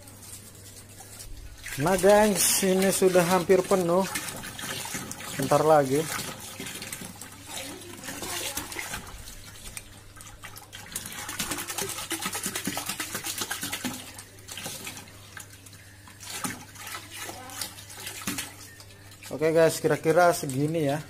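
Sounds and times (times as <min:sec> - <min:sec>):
water splashing into a tub: 0:00.0 - 0:21.0.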